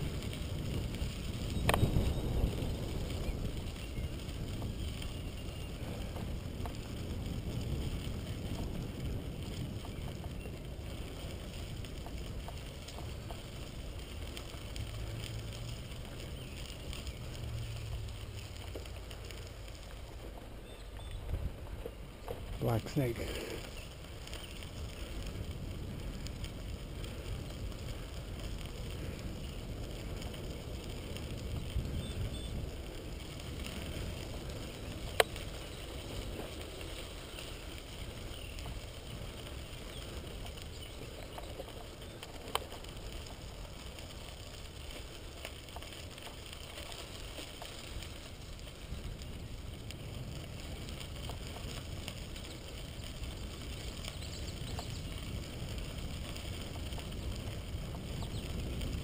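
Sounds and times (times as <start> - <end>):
wind on microphone: 0.0 - 18.6, 21.0 - 42.4, 47.9 - 59.0
bicycle tyres on gravel: 0.0 - 59.0.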